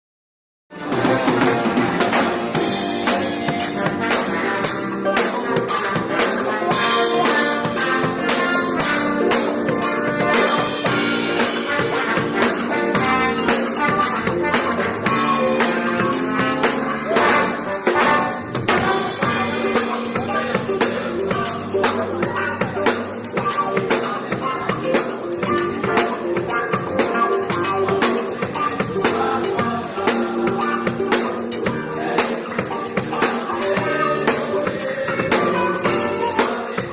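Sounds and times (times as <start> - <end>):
band playing instrumental music: 0.7 - 36.9
guitar: 0.7 - 36.9
drum kit beat: 0.8 - 36.9.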